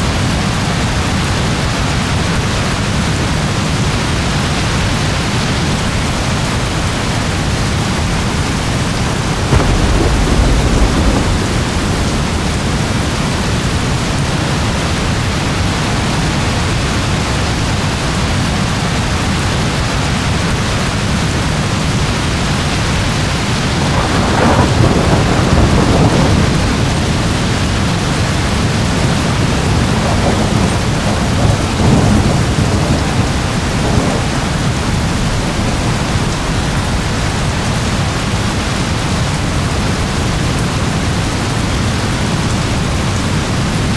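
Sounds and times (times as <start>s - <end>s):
heavy rain: 0.0s - 43.9s
thunder rolling: 0.0s - 43.9s.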